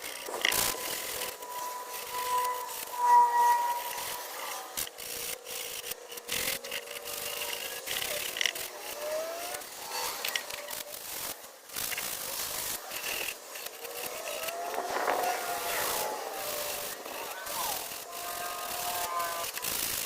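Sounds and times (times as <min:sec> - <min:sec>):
sandpaper rubbing on wood: 0:00.0 - 0:20.0.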